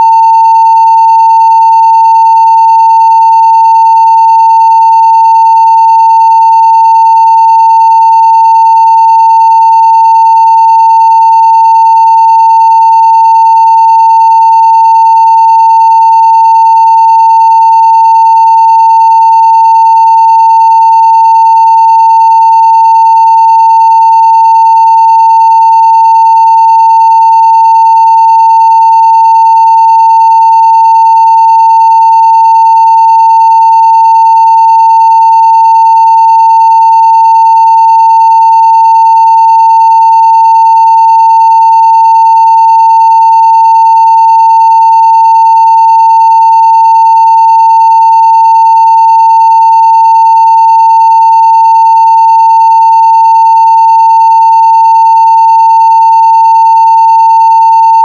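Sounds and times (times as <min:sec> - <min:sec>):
sine wave test tone: 0:00.0 - 0:58.0.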